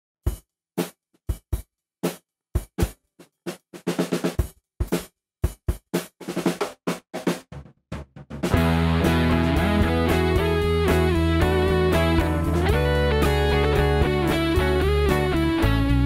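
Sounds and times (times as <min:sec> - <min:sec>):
drum kit playing: 0:00.3 - 0:16.0.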